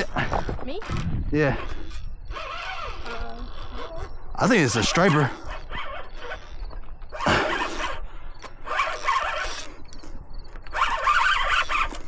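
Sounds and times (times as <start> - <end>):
fishing reel buzzing: 0.0 - 12.0.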